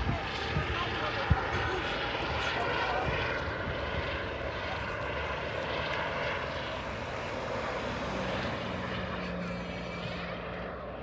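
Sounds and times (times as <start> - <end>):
helicopter engines and rotors: 0.0 - 11.0.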